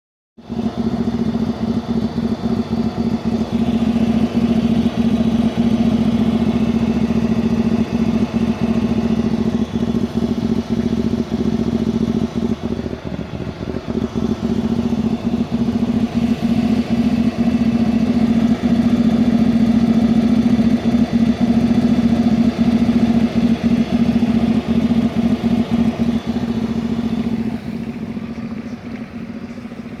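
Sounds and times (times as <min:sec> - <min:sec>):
car engine drone in cabin: 0:00.4 - 0:30.0.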